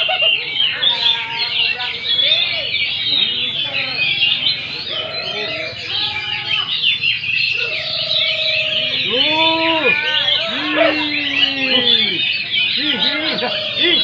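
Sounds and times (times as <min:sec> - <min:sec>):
drawn-out bird calls: 0:00.0 - 0:14.0
songbirds chirping and trilling: 0:00.0 - 0:14.0.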